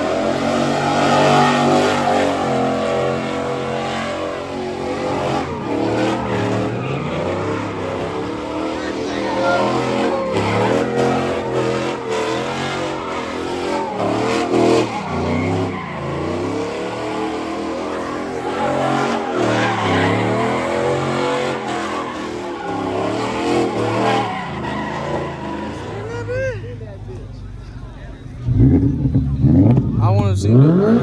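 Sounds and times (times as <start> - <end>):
car engine revving hard: 0.0 - 26.3, 28.4 - 31.0
tires squealing: 0.0 - 31.0.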